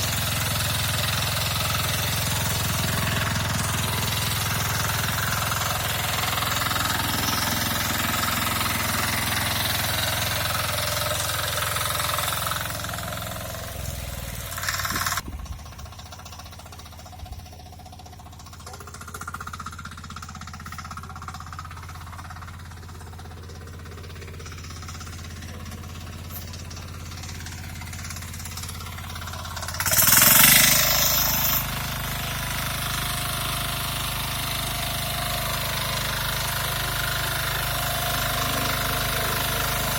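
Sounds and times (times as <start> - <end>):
cultivator engine chugging: 0.0 - 39.9.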